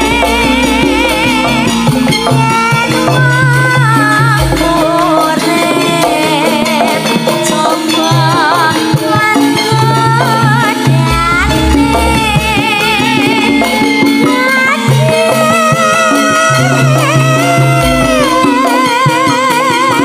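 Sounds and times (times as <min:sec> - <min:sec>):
band accompaniment with bass: 0:00.0 - 0:20.0
woman singing with vibrato: 0:00.0 - 0:20.0.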